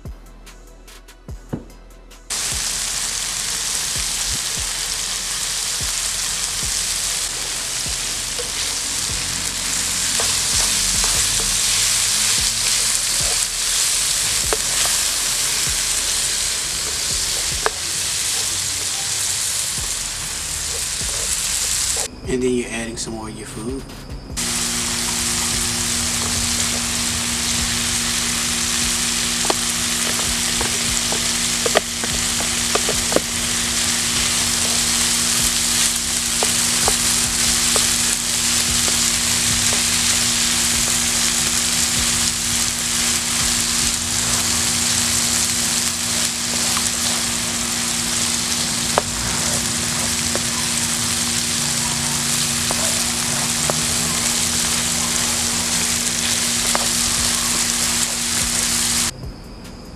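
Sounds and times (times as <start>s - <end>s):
chicken sizzling in oil: 2.3s - 22.1s, 24.4s - 59.1s
spatula stirring in a pan: 2.3s - 22.1s, 24.4s - 59.1s.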